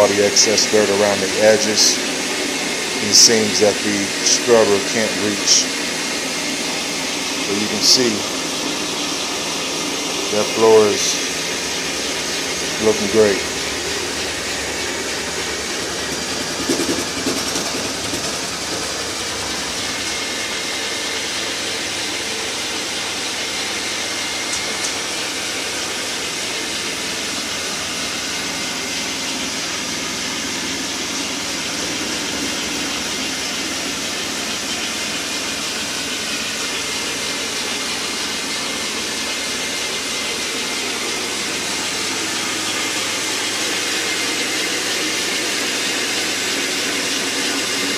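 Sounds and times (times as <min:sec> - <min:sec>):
extraction vacuum hissing: 0:00.0 - 0:47.9.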